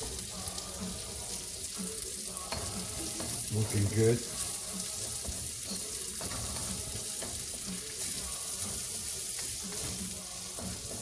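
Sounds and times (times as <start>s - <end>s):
utensil stirring in pan: 0.0s - 11.0s
vegetables sizzling in oil: 0.0s - 11.0s.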